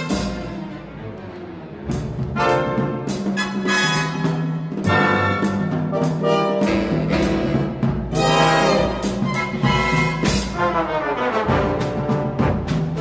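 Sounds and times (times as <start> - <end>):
orchestral brass and timpani hits: 0.0 - 13.0.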